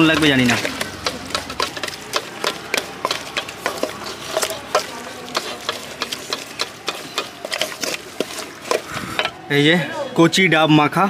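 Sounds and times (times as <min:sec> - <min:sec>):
spatula scraping a metal bowl: 0:00.0 - 0:09.4.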